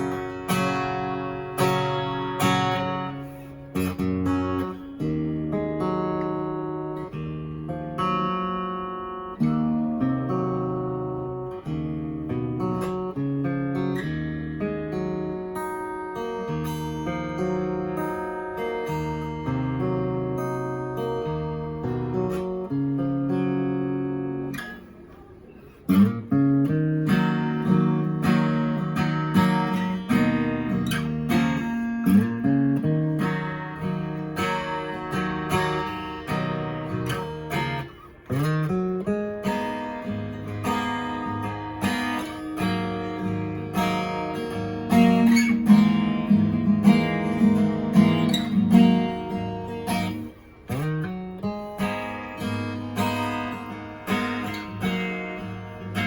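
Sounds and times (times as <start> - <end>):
acoustic guitar strummed and picked: 0.0 - 56.0.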